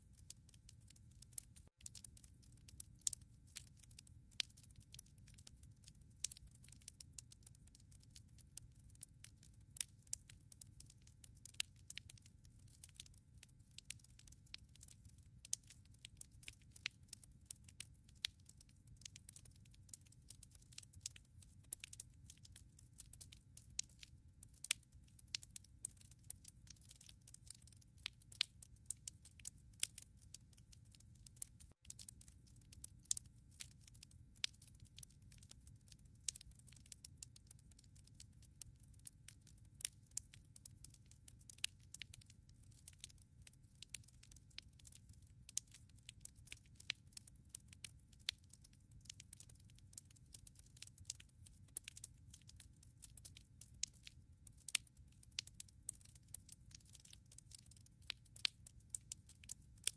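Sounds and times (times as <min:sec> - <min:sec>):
wood fire crackling: 0:00.0 - 0:54.8, 0:55.4 - 0:59.6.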